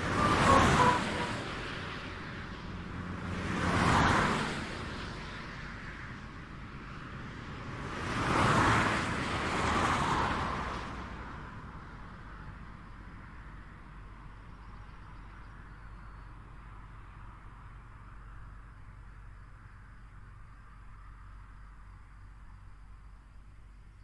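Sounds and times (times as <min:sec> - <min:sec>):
vehicles passing on highway: 0:00.0 - 0:23.9.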